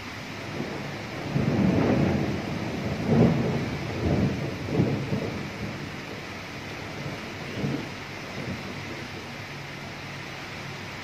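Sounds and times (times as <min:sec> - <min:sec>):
thunder rumbling: 0:00.0 - 0:09.4
rain hissing: 0:00.0 - 0:11.0.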